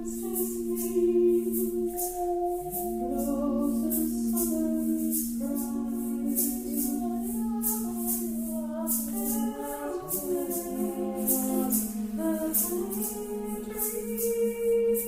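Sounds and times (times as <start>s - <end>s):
shaker pulse: 0.0s - 15.0s
voices singing in harmony: 0.0s - 15.0s.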